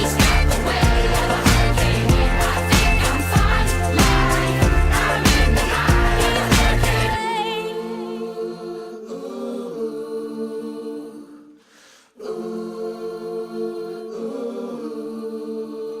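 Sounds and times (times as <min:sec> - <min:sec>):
choir-like sung chords: 0:00.0 - 0:16.0.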